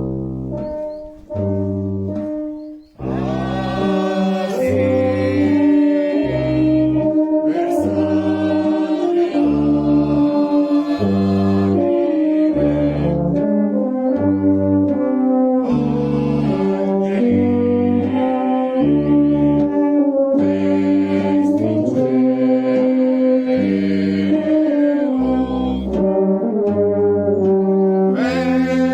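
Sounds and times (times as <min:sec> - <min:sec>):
brass band playing slow music: 0:00.0 - 0:28.9.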